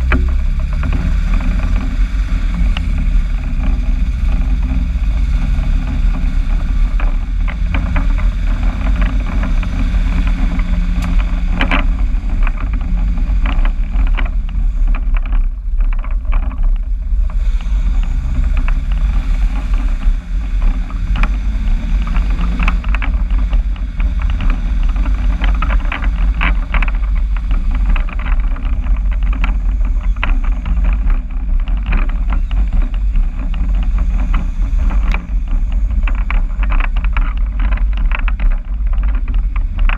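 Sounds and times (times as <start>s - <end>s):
vehicle engine exhaust drone: 0.0s - 39.9s.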